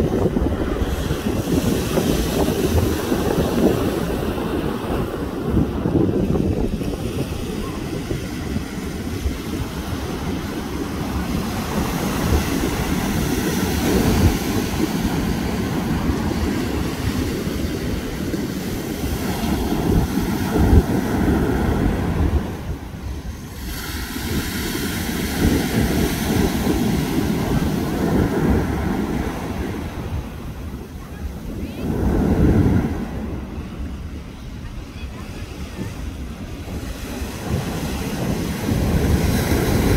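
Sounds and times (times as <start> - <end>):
ocean surf breaking on beach: 0.0 - 39.9
wind buffeting microphone: 0.0 - 39.9.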